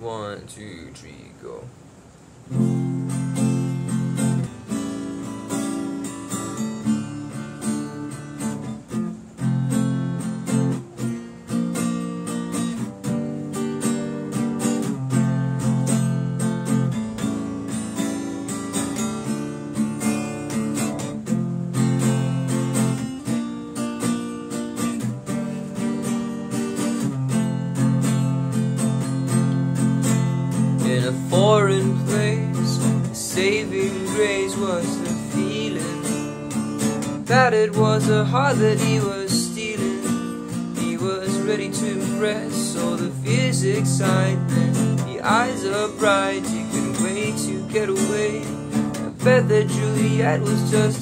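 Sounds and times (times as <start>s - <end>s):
acoustic guitar strumming: 2.4s - 51.0s.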